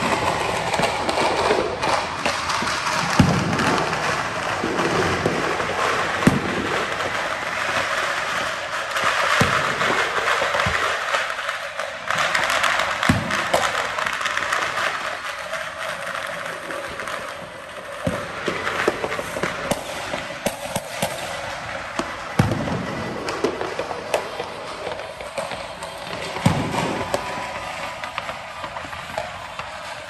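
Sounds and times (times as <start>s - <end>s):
firecrackers crackling: 0.0s - 30.0s
fireworks bangs and booms: 0.0s - 30.0s.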